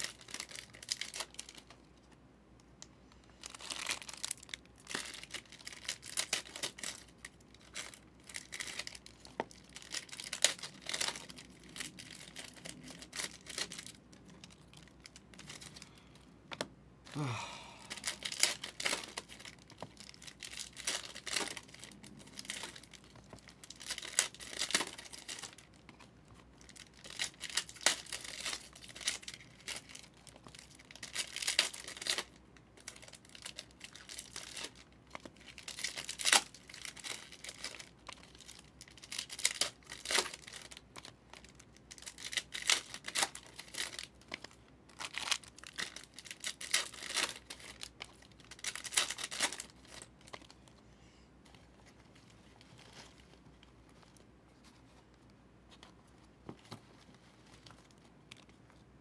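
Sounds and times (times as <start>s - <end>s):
plastic wrappers tearing and crinkling: 0.0s - 1.9s, 3.3s - 16.0s, 17.9s - 50.7s, 51.5s - 54.8s.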